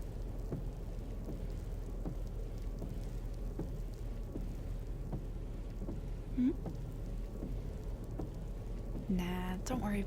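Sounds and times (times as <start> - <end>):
faint ticks: 0.0 - 9.3
low rumble: 0.0 - 10.0
rain-like hiss: 0.0 - 10.0.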